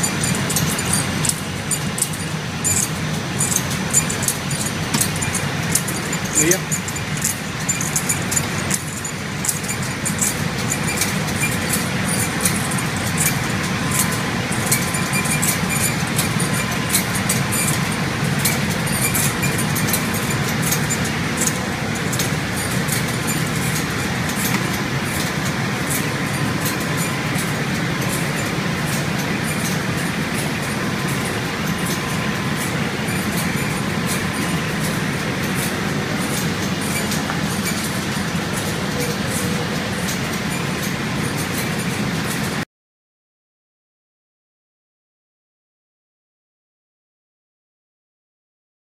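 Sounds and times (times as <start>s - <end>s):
printing machine humming: 0.0s - 42.6s.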